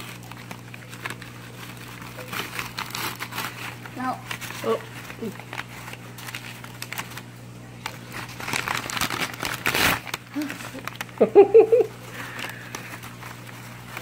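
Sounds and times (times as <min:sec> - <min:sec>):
packing paper crinkling: 0:00.0 - 0:14.0.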